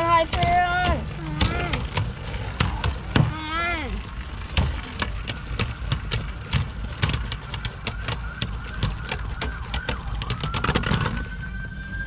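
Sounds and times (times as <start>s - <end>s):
high spinning whine: 0.0s - 12.0s.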